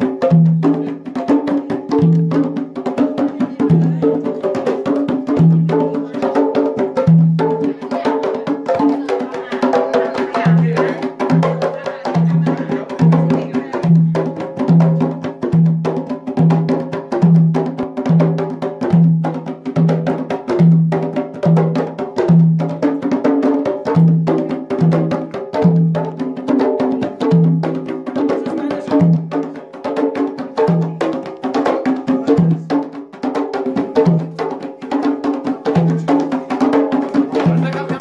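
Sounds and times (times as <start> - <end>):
sharp hand drum slaps: 0.0 - 38.0.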